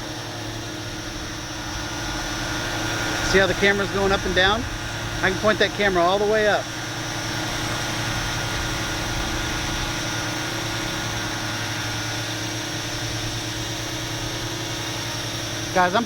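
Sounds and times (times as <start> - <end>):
drone propellers humming: 0.0 - 16.0.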